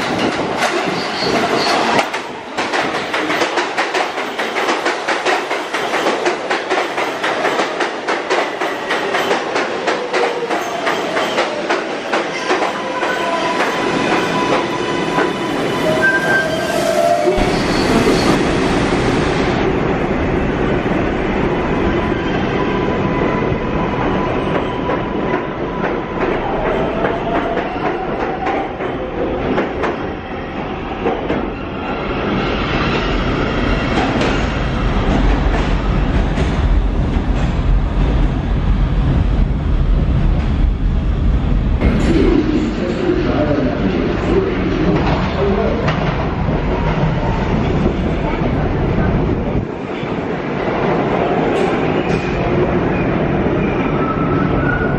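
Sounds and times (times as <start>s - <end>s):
subway train wheels clattering: 0.0s - 54.9s.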